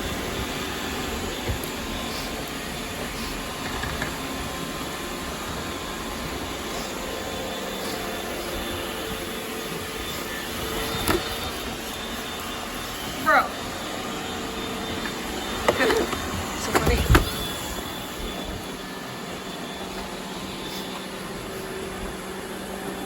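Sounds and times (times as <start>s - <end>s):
robot vacuum cleaner whirring: 0.0s - 23.0s.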